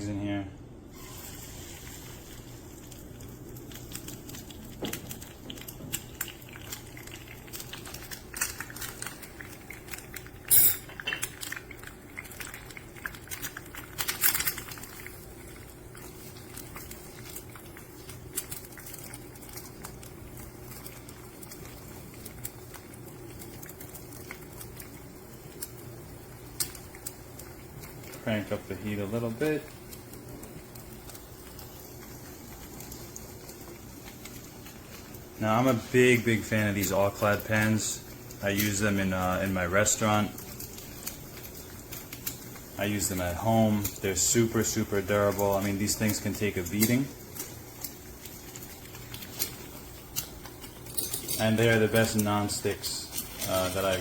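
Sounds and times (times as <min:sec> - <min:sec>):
eggs sizzling in a pan: 0:00.9 - 0:54.0.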